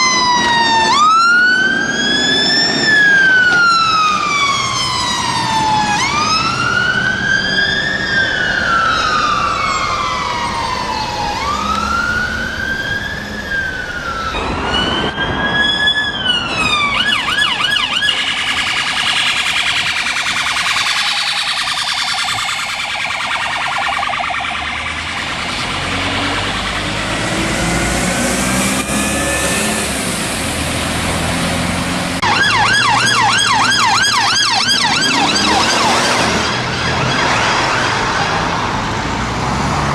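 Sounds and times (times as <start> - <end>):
police siren yelping: 0.0 - 29.8, 32.2 - 38.9
fire engine siren wailing: 0.0 - 39.9.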